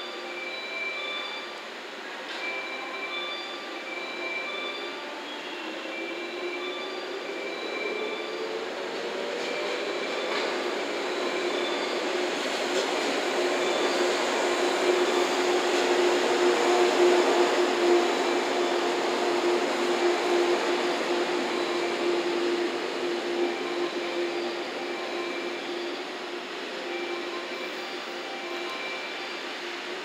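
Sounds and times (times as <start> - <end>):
electric train running past: 0.0 - 30.0.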